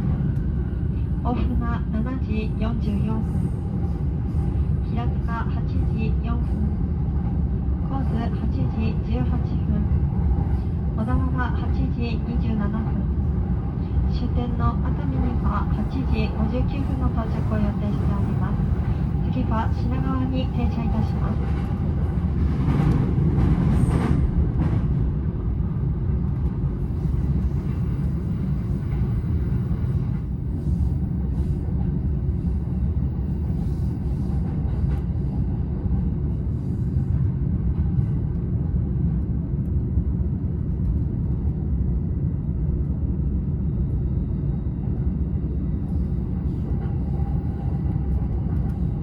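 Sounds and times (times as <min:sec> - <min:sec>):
train wheels rumbling on rails: 0:00.0 - 0:41.7.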